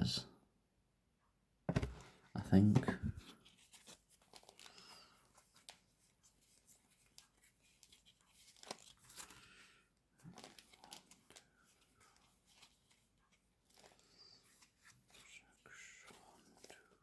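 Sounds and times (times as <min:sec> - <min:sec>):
cards rustling and shuffling: 0:01.7 - 0:09.7, 0:10.3 - 0:15.3, 0:16.0 - 0:17.0.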